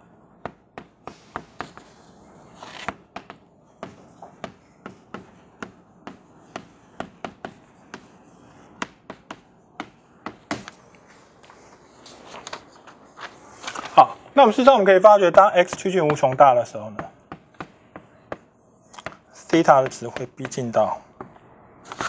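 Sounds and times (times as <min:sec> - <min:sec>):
chalk tapping and scratching: 0:00.0 - 0:12.2, 0:14.6 - 0:22.0.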